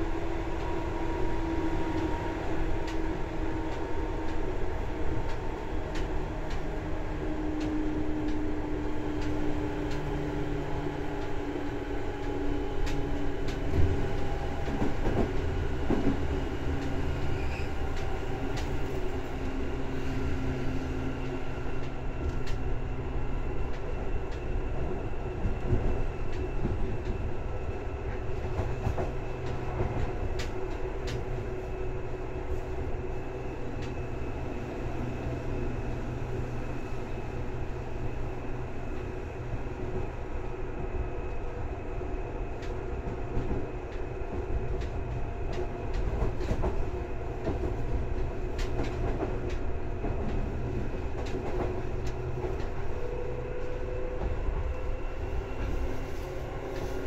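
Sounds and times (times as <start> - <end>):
train rolling noise: 0.0 - 57.0.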